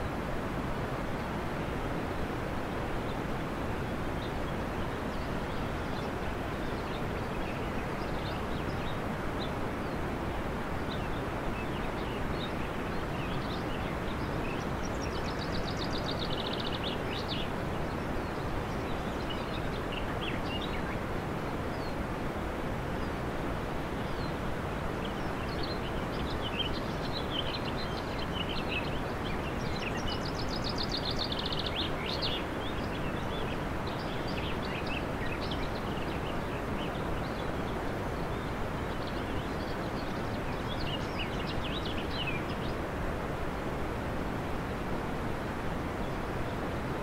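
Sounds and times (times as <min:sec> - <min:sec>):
steady rushing noise: 0:00.0 - 0:47.0
birds chirping: 0:03.8 - 0:22.1, 0:23.9 - 0:43.7.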